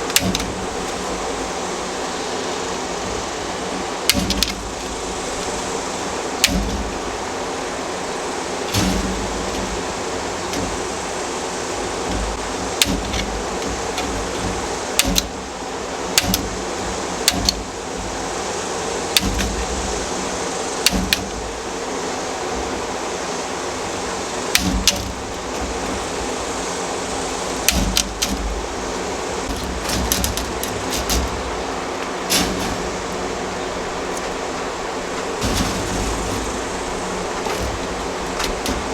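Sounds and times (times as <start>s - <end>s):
wire cutters snipping mesh: 0.0s - 2.2s, 2.8s - 7.4s, 8.6s - 17.8s, 19.1s - 19.8s, 20.8s - 21.5s, 24.5s - 38.9s.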